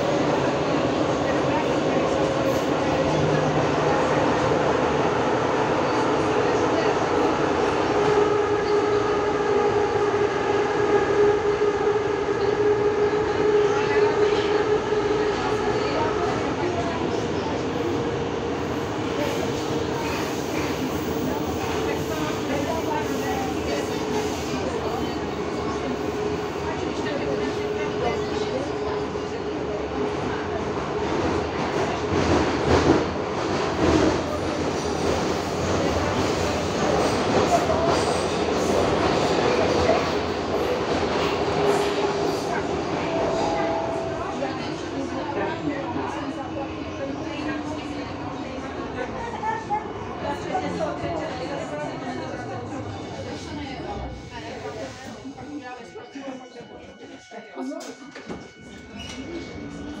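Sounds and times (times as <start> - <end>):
metro car rumble and rush: 0.0 - 60.0.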